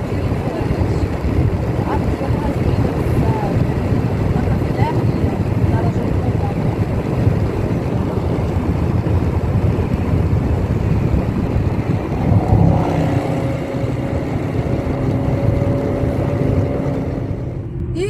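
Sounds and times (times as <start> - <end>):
engine and tyre rumble: 0.0 - 18.0
wind on microphone: 0.0 - 18.0.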